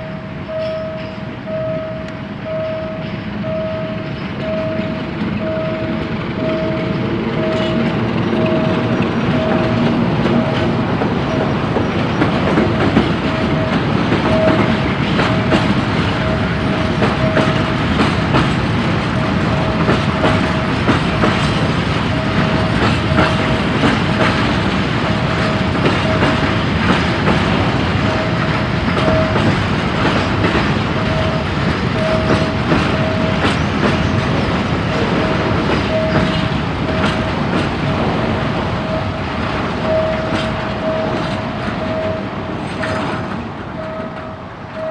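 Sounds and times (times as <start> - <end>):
crossing warning signal tone: 0.0 - 44.9
train wheels clattering over rails: 2.5 - 44.9.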